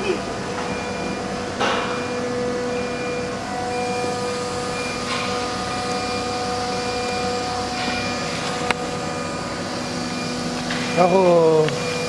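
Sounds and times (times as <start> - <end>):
cnc router whine: 0.0 - 12.0
higher machine tone: 0.0 - 12.0.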